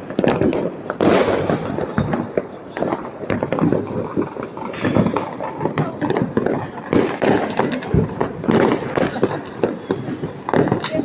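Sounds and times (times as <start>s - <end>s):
firecrackers bangs and crackles: 0.0s - 11.0s
heavy firework bang: 0.0s - 11.0s.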